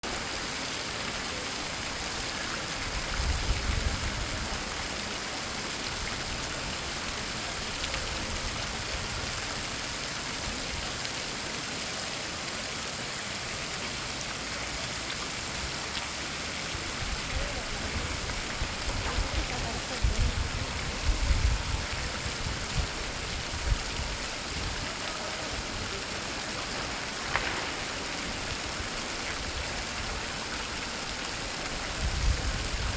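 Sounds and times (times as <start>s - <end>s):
fountain splashing: 0.0s - 32.9s.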